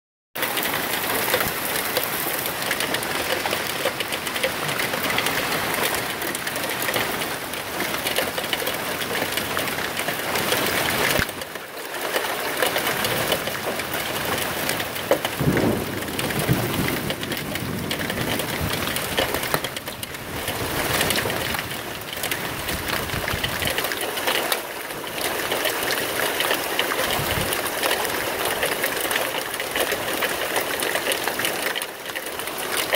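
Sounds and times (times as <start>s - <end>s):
hail and rain pelting down: 0.4s - 32.9s.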